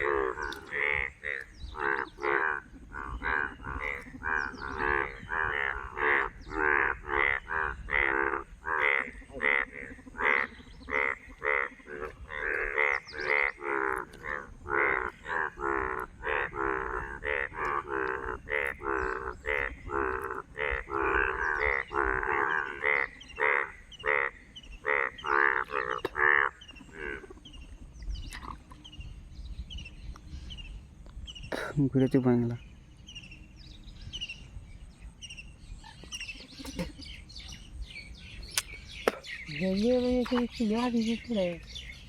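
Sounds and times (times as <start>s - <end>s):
frogs croaking: 0.0s - 42.0s.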